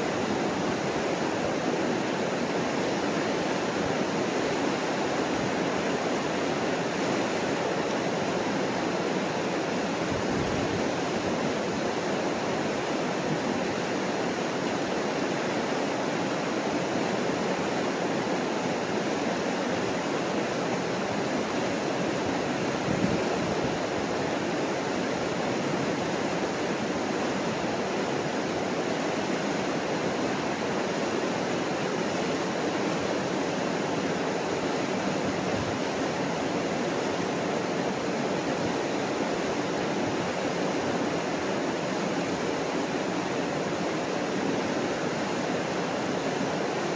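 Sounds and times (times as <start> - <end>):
white water rushing over rocks: 0.0 - 46.9.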